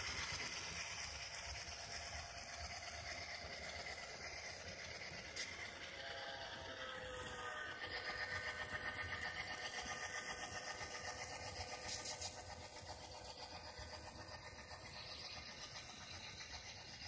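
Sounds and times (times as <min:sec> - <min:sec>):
diesel engine chug from speaker: 0:00.0 - 0:17.0
model motor whir: 0:00.0 - 0:17.0.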